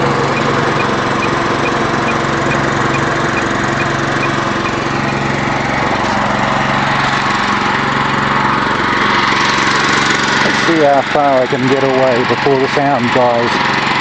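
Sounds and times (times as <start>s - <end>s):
small engine running generator: 0.0s - 14.0s.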